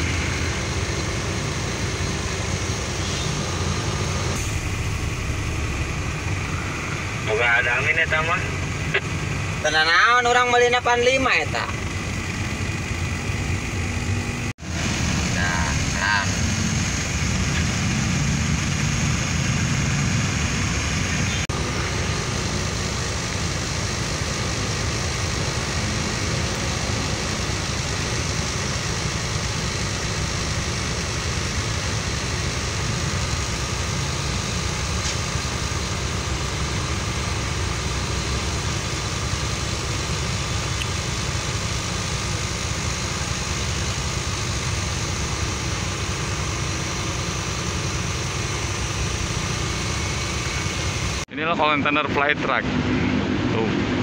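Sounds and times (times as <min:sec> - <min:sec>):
heavy diesel engine running: 0:00.0 - 0:54.0
truck engine from inside cab: 0:00.0 - 0:54.0.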